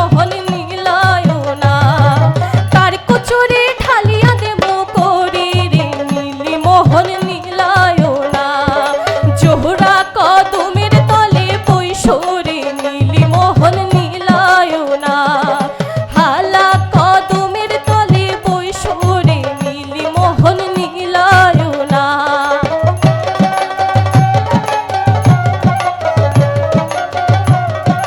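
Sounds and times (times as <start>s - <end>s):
hand drum beat: 0.0s - 28.0s
person singing folk melody: 0.0s - 28.0s.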